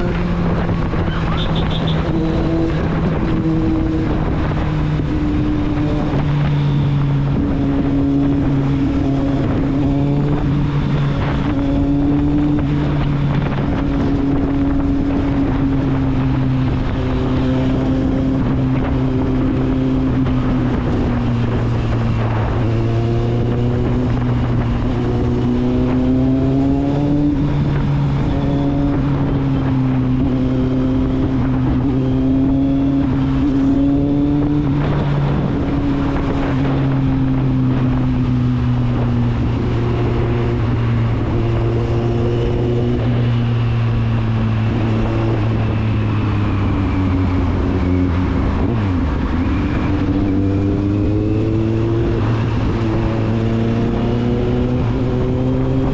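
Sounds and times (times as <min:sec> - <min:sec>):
motorcycle engine and exhaust: 0:00.0 - 0:55.9
wind buffeting microphone: 0:00.0 - 0:55.9.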